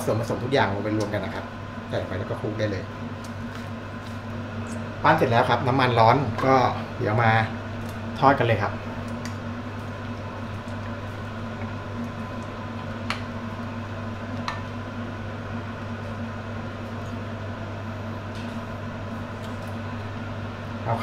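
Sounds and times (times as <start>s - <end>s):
kitchen appliance humming: 0.0s - 21.0s.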